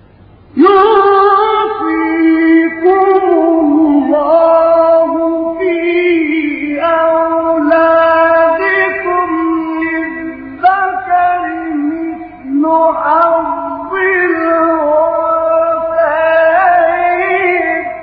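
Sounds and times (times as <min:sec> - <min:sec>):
man chanting melodic recitation: 0:00.6 - 0:18.0.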